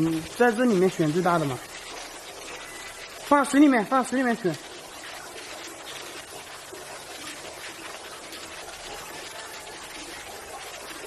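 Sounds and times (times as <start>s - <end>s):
running water hiss: 0.0s - 11.0s.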